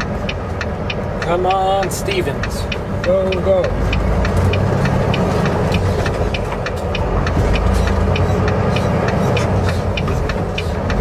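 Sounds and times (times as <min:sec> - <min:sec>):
diesel engine running: 0:00.0 - 0:11.0
regular ticking: 0:00.0 - 0:11.0.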